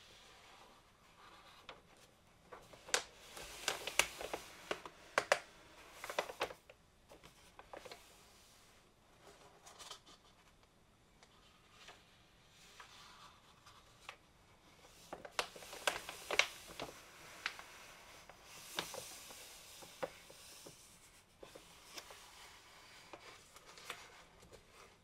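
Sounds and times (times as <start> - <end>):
paper pages rustling: 0.3 - 8.2, 11.3 - 25.0.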